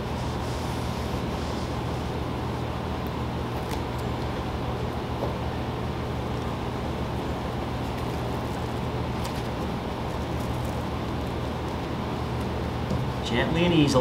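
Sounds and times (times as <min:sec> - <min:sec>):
ventilation hum and hiss: 0:00.0 - 0:14.0.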